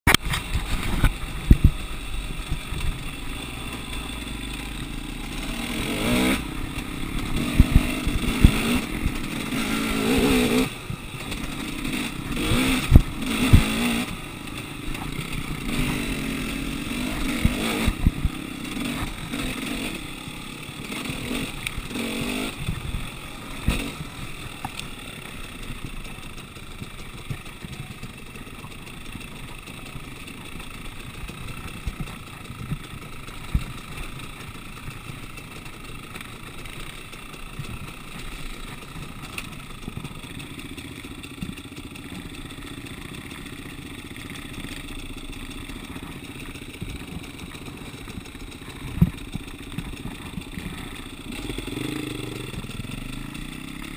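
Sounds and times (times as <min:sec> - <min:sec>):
dirt bike engine revving: 0:00.1 - 0:53.9.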